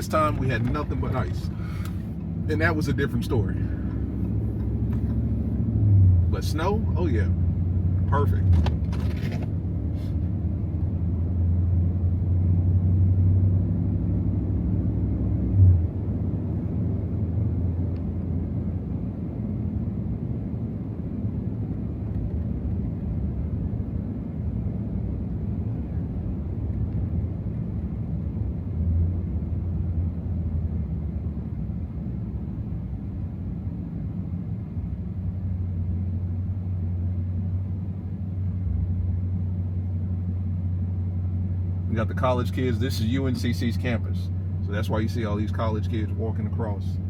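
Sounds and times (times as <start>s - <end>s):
road noise: 0.0s - 47.0s
truck engine cruising: 0.0s - 47.0s.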